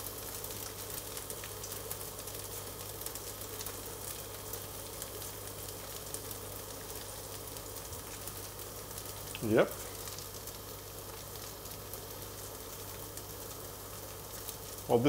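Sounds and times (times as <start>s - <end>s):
batter sizzling in a frying pan: 0.0s - 15.0s.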